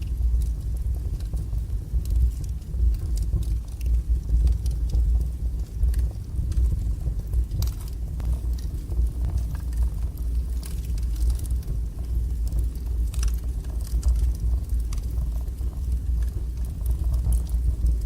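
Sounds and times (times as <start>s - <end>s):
fire crackles and pops: 0.0s - 18.0s
wood fire rumbling: 0.0s - 18.0s.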